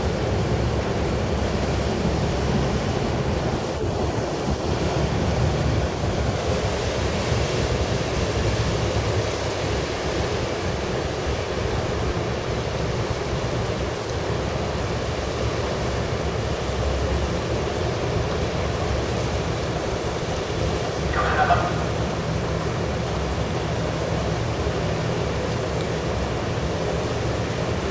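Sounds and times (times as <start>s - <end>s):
sea water washing: 0.0s - 27.9s.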